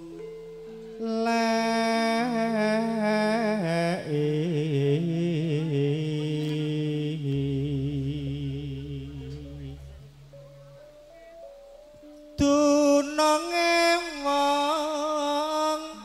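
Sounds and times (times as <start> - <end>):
campursari music: 0.0 - 16.0.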